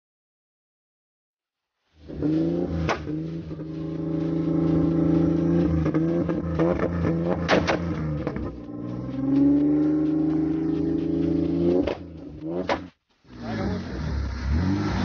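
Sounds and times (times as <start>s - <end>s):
off-road vehicle engine running: 2.0s - 15.0s.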